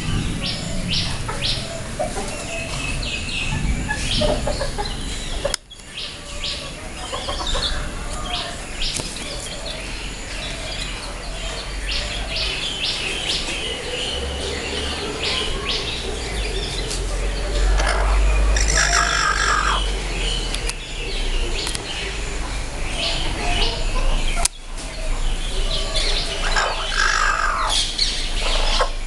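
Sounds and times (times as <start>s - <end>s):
chickens chirping: 0.0s - 29.0s.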